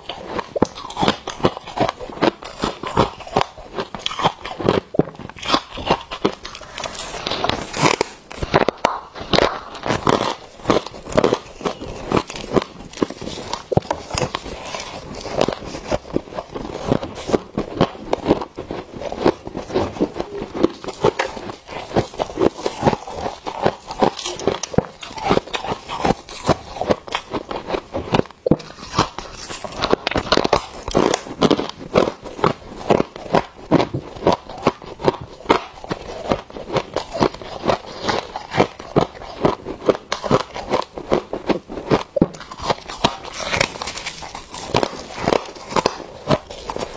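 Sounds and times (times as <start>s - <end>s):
crunching frost between teeth: 0.0s - 46.9s.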